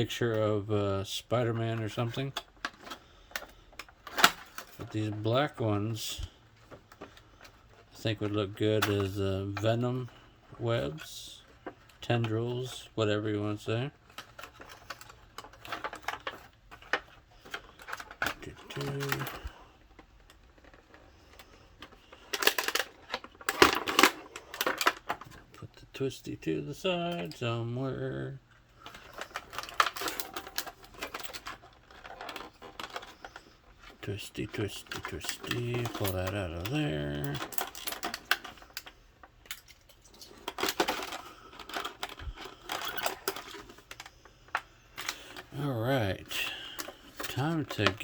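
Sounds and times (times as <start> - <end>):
plastic packaging crinkling: 1.0 - 25.6, 26.9 - 48.0.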